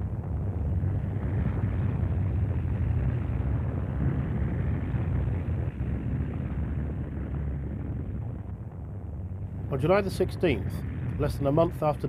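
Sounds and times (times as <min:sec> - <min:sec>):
muffled rushing noise: 0:00.0 - 0:12.0
steady low rumble: 0:00.0 - 0:12.0.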